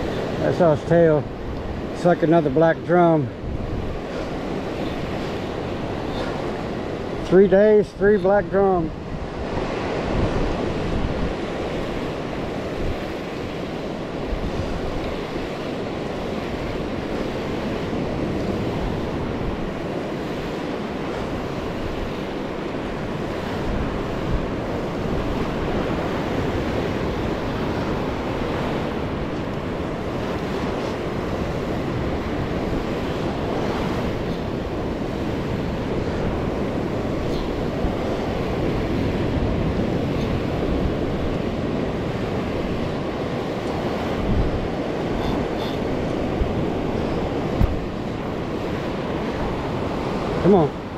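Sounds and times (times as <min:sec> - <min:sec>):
ocean surf washing up: 0:00.0 - 0:50.9
wind buffeting microphone: 0:00.0 - 0:50.9.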